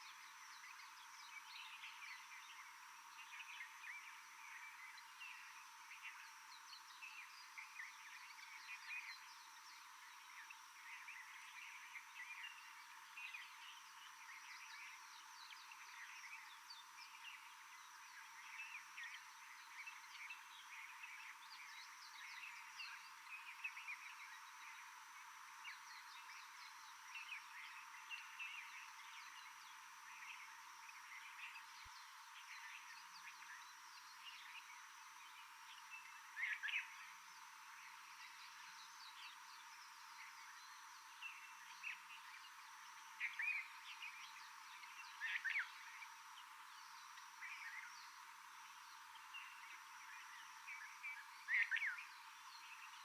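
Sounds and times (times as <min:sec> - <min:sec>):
steady high-pitched hiss: 0:00.0 - 0:53.0.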